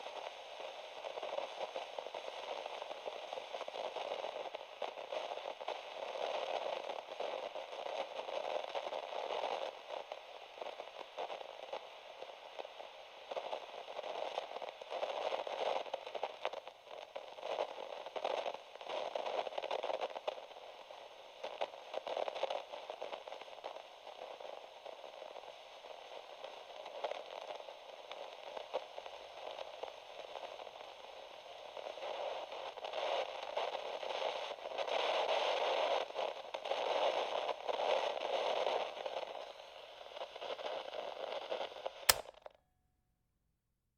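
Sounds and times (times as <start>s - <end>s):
crackling tape static hiss: 0.0s - 42.4s.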